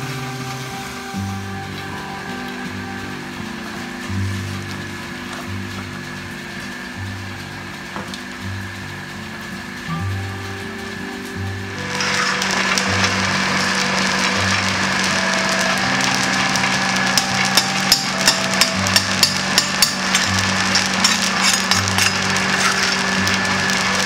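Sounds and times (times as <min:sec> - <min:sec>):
background music: 0:00.0 - 0:07.9, 0:08.5 - 0:24.0
coffee beans rattling and hissing: 0:00.0 - 0:24.0.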